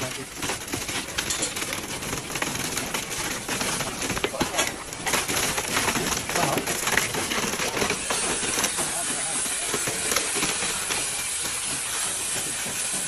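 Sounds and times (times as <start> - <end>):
hissing and crackling site noise: 0.0 - 13.0
wet concrete spilling: 0.0 - 13.0.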